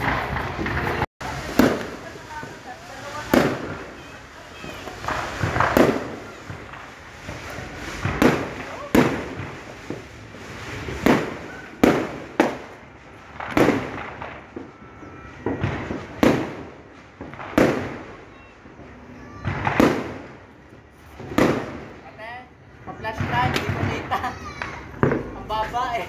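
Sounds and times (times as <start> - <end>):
fireworks exploding: 0.0 - 26.0.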